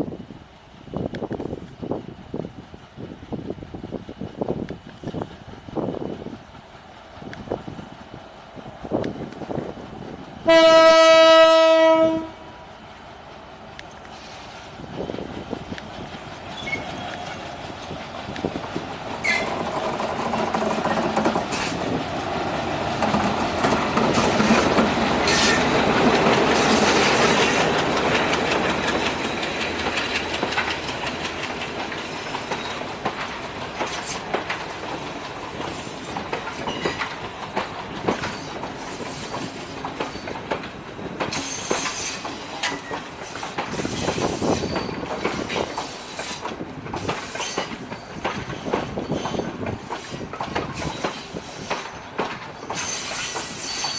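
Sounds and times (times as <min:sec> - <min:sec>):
train wheels clickety-clack: 0:00.7 - 0:12.3, 0:13.3 - 0:53.9.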